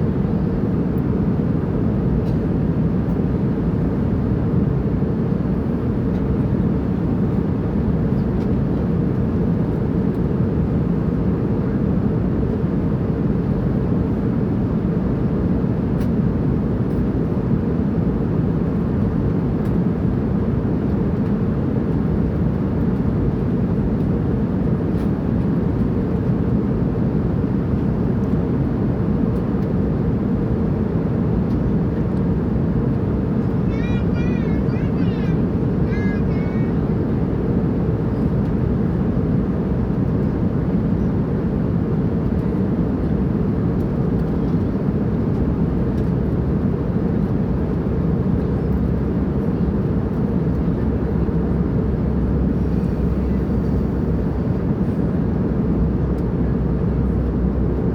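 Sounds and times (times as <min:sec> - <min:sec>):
airplane engine drone: 0:00.0 - 0:57.9.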